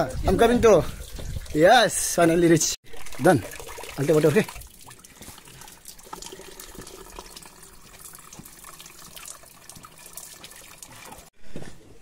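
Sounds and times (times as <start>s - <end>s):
water trickling into plastic bottle: 0.4s - 2.2s, 2.8s - 11.3s.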